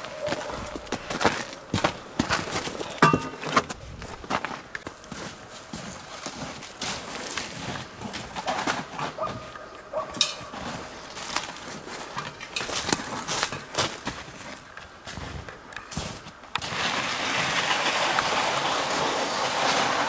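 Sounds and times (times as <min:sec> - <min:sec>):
footsteps crunching in snow: 0:00.0 - 0:20.0.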